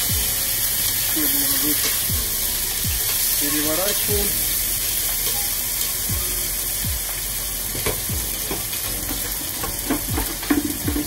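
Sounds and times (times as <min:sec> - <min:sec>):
steaks sizzling in a skillet: 0:00.0 - 0:11.0.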